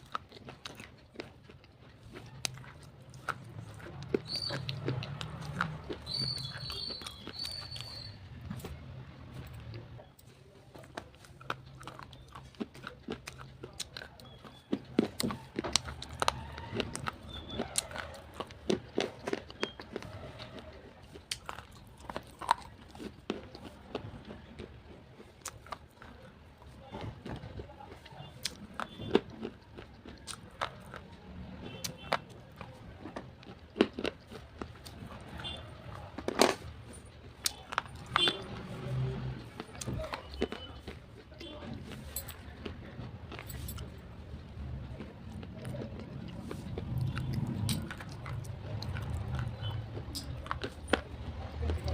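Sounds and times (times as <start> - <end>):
pencils being bitten and crunched: 0.0 - 8.8, 10.8 - 51.9.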